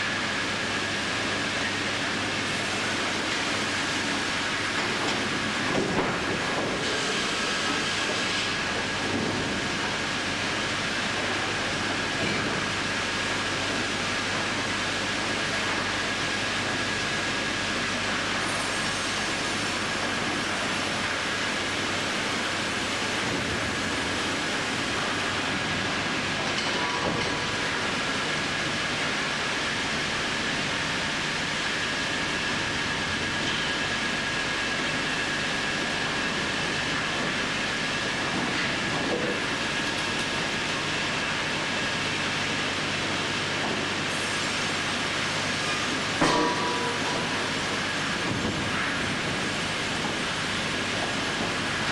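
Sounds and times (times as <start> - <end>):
high machine whine: 0.0 - 51.9
low machine hum: 0.0 - 51.9.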